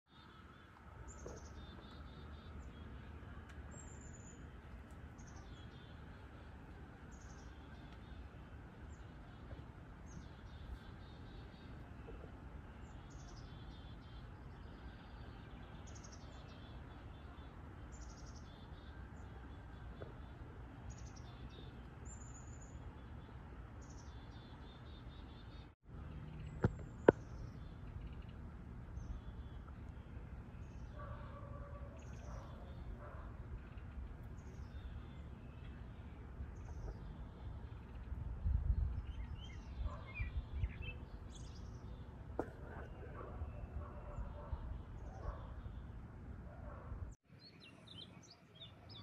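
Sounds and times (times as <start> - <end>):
songbirds singing: 0.1 - 49.0.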